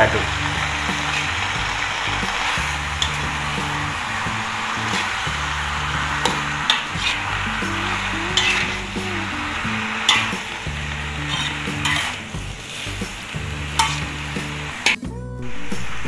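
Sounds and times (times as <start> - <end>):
metal spatula scraping wok: 0.0 - 15.0
greens sizzling in hot oil: 0.0 - 16.0.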